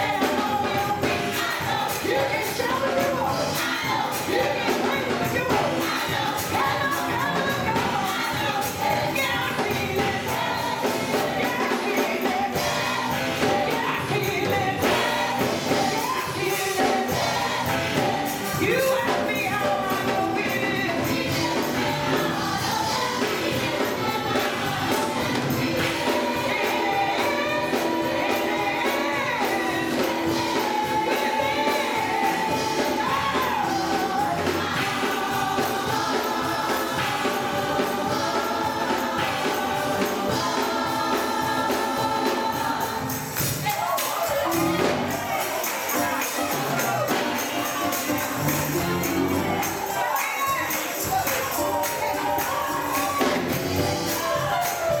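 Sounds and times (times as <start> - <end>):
gospel choir singing to a beat: 0.0 - 55.0.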